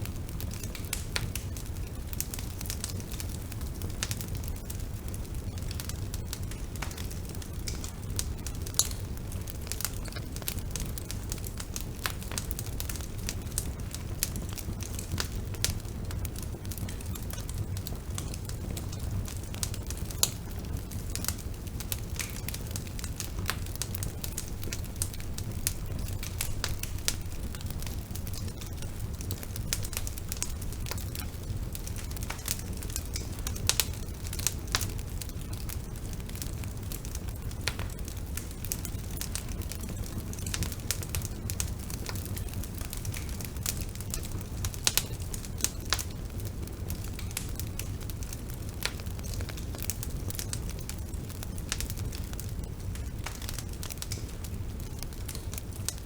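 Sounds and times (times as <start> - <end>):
flames rumbling: 0.0 - 56.0
wood crackling and popping: 0.0 - 56.0.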